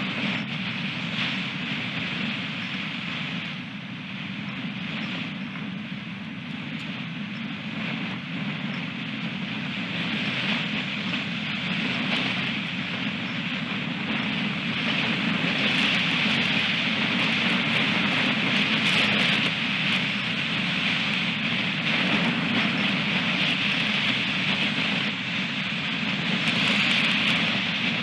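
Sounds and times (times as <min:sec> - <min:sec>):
strong wind over microphone: 0:00.0 - 0:28.0.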